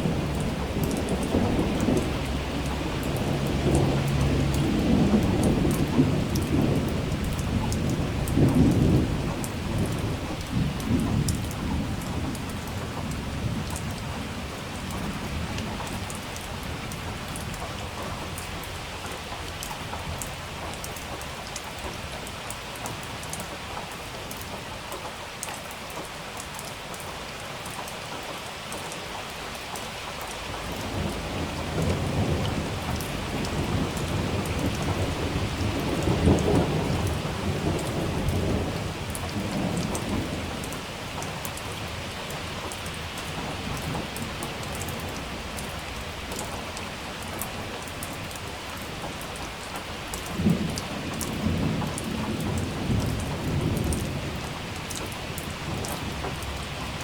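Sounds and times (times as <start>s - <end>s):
rolling thunder: 0.0s - 21.2s, 30.4s - 57.0s
steady rain: 0.0s - 57.0s.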